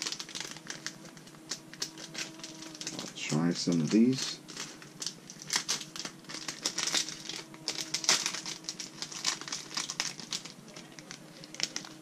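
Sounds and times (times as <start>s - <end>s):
plastic pouch crinkling: 0.0s - 12.0s.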